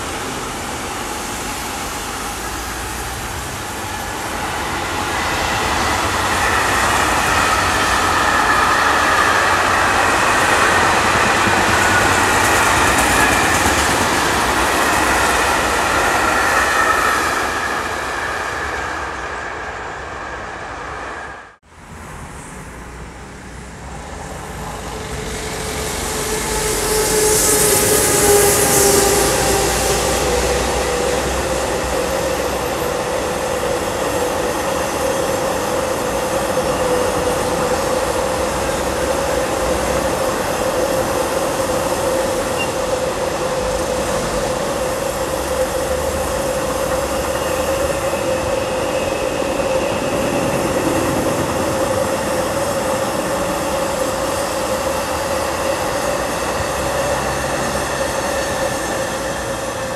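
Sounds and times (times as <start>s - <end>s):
constant locomotive whine: 0.0s - 21.6s, 22.4s - 59.9s
train wheels rushing on rails: 0.0s - 21.6s, 22.4s - 59.9s.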